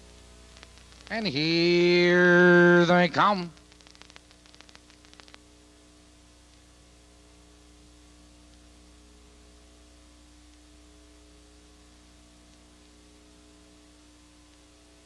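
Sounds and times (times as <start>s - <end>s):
even hiss: 0.0s - 15.0s
faint electrical hum: 0.0s - 15.0s.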